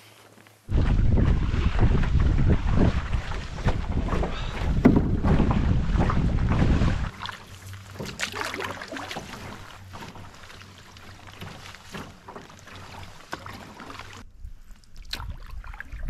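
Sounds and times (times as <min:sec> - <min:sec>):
hiss of wind and water: 0:00.0 - 0:16.0
paddle strokes splashing water: 0:00.7 - 0:16.0.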